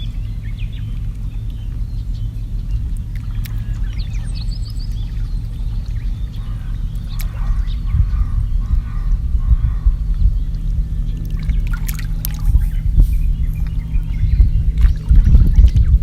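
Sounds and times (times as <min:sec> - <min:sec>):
high bird chirps: 0:00.0 - 0:16.0
low rumble: 0:00.0 - 0:16.0
lower bird call: 0:00.0 - 0:16.0.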